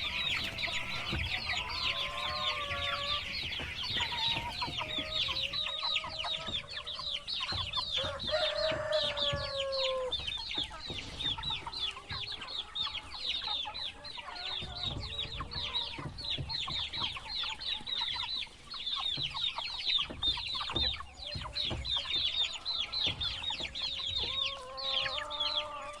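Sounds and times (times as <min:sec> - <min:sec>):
baby chicks chirping: 0:00.0 - 0:26.0.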